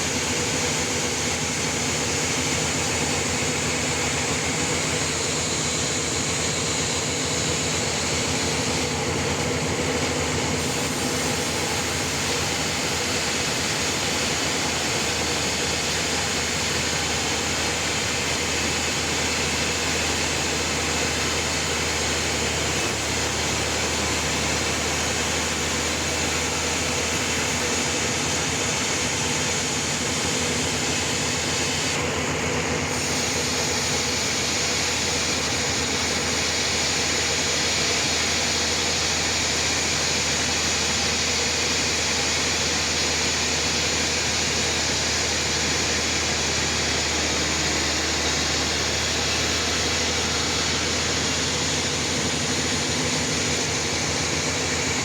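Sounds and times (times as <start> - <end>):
high whine: 0.0 - 55.0
sawmill sawing a log: 0.0 - 55.0.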